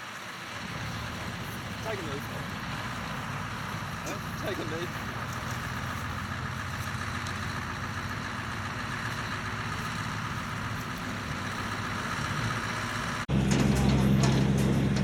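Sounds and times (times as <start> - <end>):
diesel truck engine at low revs: 0.0 - 15.0.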